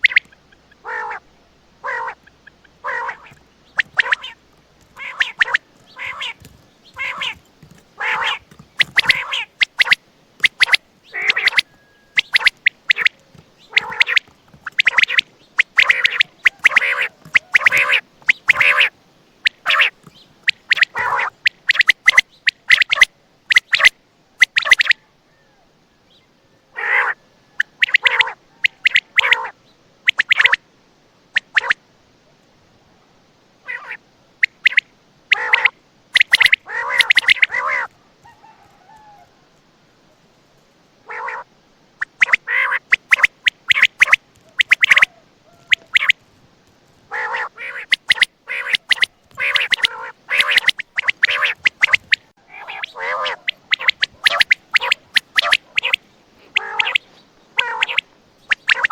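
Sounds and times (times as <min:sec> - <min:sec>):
quail calling: 0:00.0 - 0:25.7, 0:26.6 - 0:30.6, 0:31.4 - 0:31.8, 0:33.6 - 0:39.5, 0:41.0 - 0:46.2, 0:47.1 - 0:58.9.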